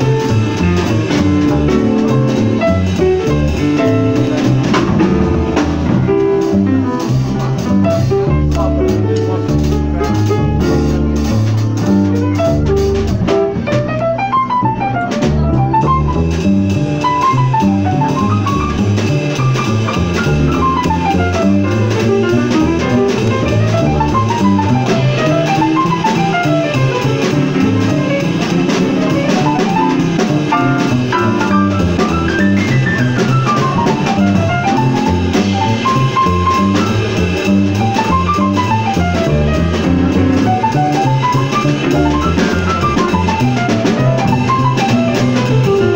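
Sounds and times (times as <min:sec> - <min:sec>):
drums: 0:00.0 - 0:45.9
jazz piano fast runs: 0:00.0 - 0:45.9
walking bass line: 0:00.0 - 0:45.9.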